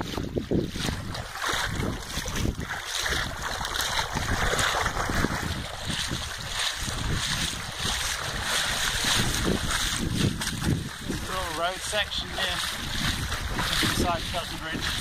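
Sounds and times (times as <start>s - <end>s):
water sloshing from wading: 0.0s - 15.0s
wind buffeting microphone: 0.0s - 15.0s.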